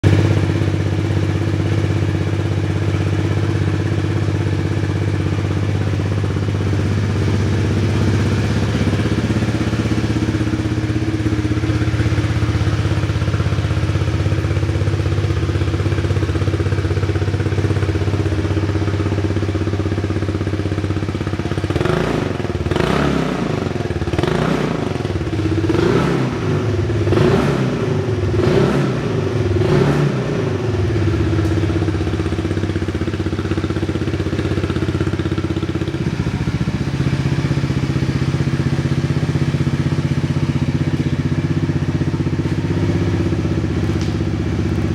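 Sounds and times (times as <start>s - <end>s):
scooter engine idling and revving: 0.0s - 44.9s.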